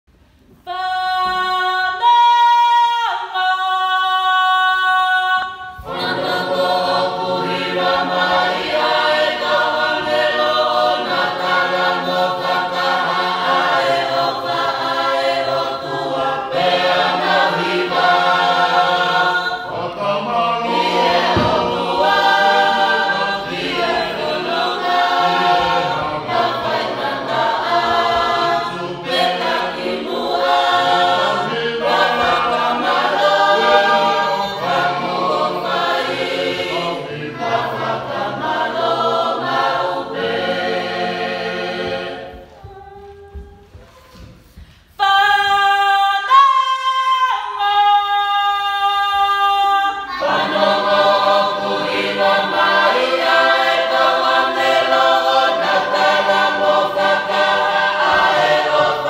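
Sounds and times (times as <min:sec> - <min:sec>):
choir singing a cappella: 0:00.5 - 0:59.0.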